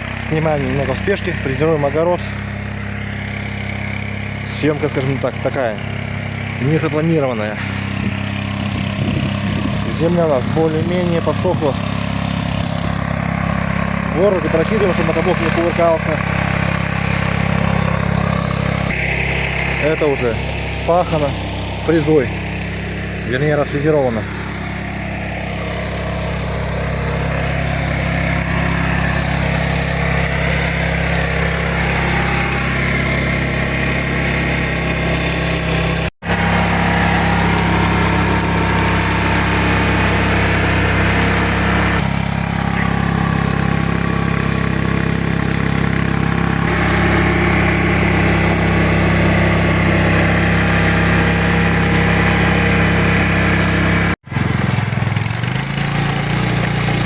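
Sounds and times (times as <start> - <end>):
tractor engine with rotary tiller: 0.0 - 57.0.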